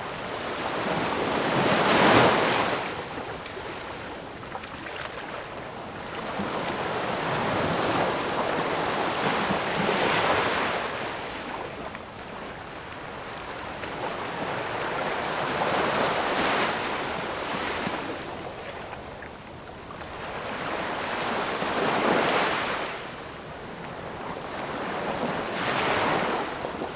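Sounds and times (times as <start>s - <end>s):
sea waves surging onto shore: 0.0s - 19.1s, 20.0s - 26.9s.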